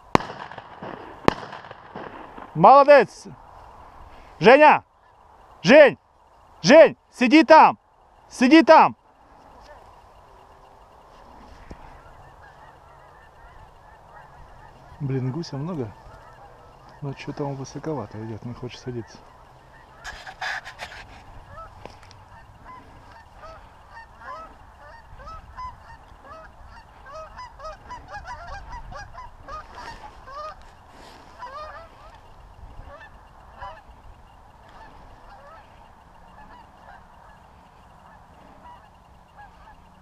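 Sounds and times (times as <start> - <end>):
geese honking: 3.6 - 40.0.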